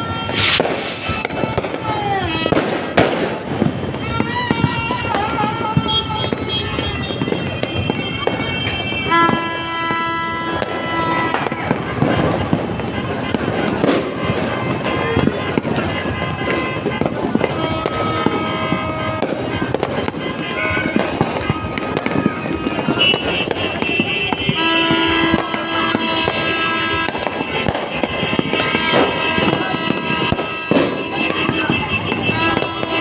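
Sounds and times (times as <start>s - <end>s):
fireworks crackling and popping: 0.0s - 33.0s.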